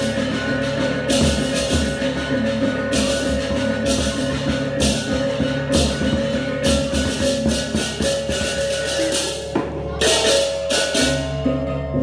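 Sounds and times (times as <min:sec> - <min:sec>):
drums: 0:00.0 - 0:12.0
metallic gamelan cymbal clashing: 0:00.0 - 0:12.0.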